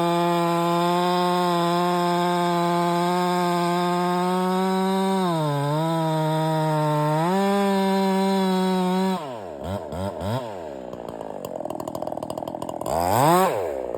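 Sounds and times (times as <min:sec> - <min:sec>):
chainsaw revving then idling: 0:00.0 - 0:13.9.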